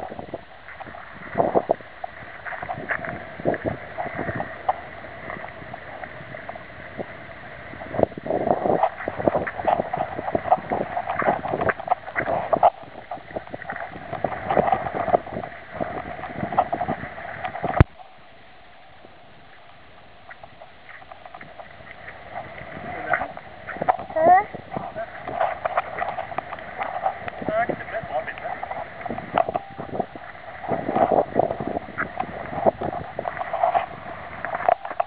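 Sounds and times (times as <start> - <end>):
quiet steady noise: 0.0 - 35.0.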